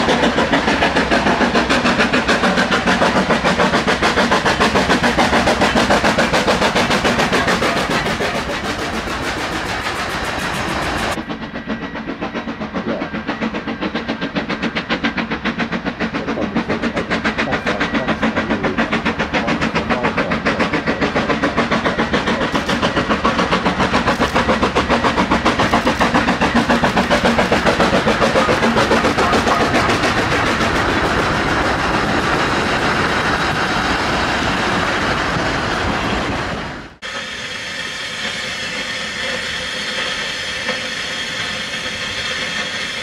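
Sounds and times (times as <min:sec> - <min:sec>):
steam locomotive chuffing: 0:00.0 - 0:43.0.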